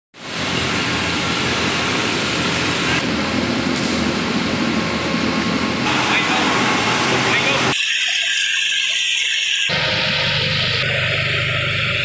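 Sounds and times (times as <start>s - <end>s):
machinery hum and hiss: 0.2s - 12.0s.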